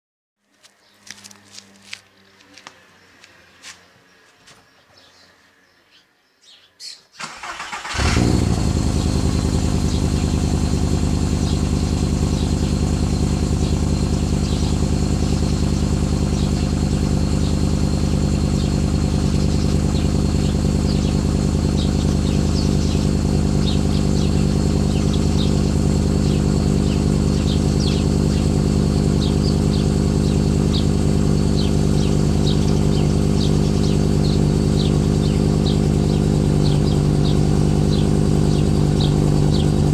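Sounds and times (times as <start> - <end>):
car engine starting and idling: 7.2 - 39.9.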